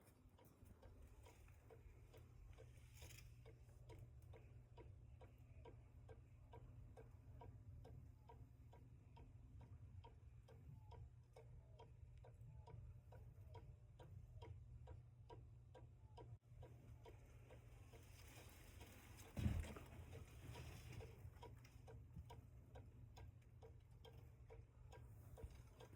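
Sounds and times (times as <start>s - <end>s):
clock ticking faintly: 0.0s - 25.9s.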